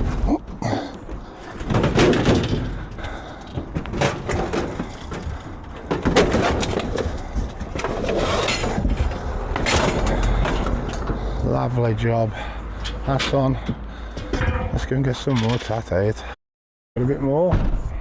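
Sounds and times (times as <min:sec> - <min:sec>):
scrap metal knocks and clanks: 0:00.0 - 0:15.9
metal scraping and shuffling: 0:00.0 - 0:16.1.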